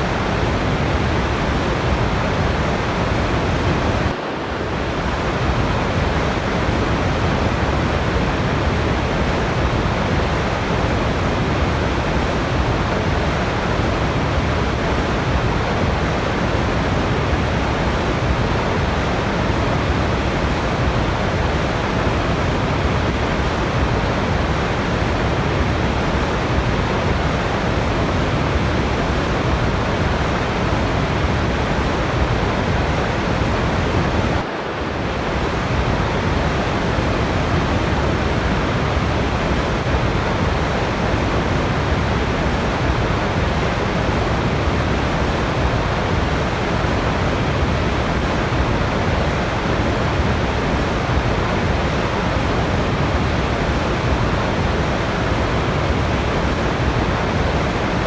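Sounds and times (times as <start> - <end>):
waterfall rushing water: 0.0 - 58.0.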